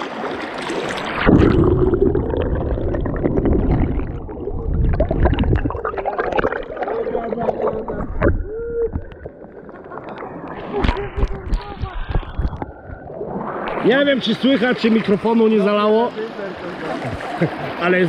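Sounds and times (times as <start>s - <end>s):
underwater stream rushing: 0.0s - 18.0s.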